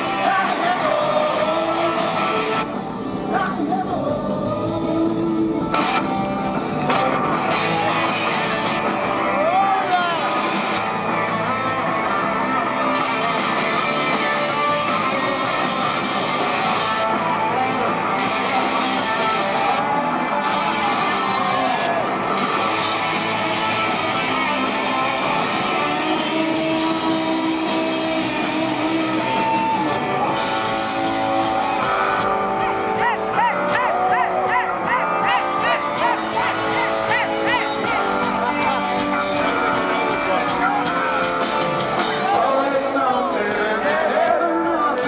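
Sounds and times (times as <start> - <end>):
live rock band with electric guitars: 0.0 - 45.0.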